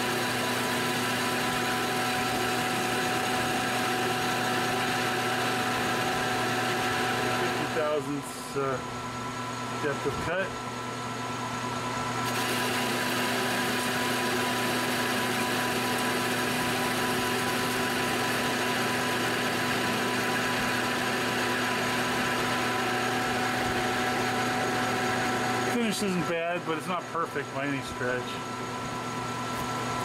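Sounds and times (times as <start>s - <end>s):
lathe motor and gear hum: 0.0s - 30.0s.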